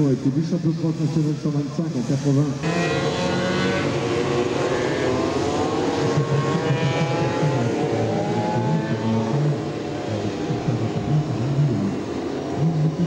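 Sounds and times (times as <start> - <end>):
motorcycle engines accelerating: 0.0 - 13.0.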